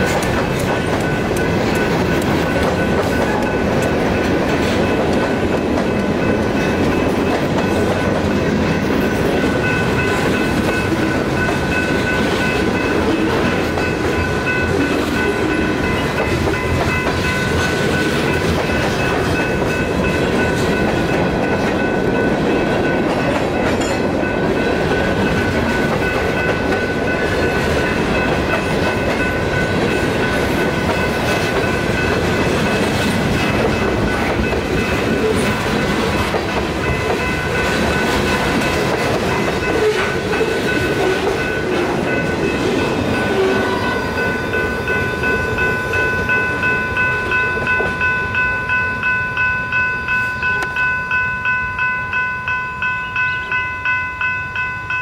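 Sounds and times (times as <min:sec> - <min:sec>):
freight cars clattering on rails: 0:00.0 - 0:48.1
crossing bell ringing: 0:00.0 - 0:55.0.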